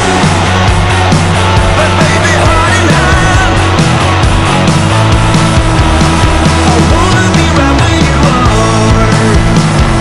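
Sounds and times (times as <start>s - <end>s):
drum beat: 0.0s - 10.0s
heavy bass: 0.0s - 10.0s
loud rock music: 0.0s - 10.0s.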